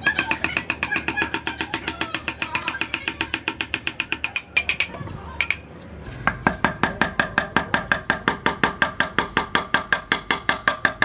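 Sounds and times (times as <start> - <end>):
rapid tapping on wood: 0.0 - 5.6, 6.3 - 11.0.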